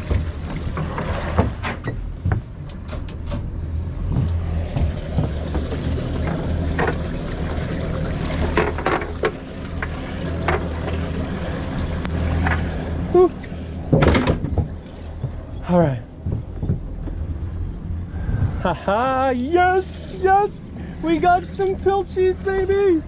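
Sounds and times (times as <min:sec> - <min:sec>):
outboard motor idling hum: 0:00.0 - 0:23.0.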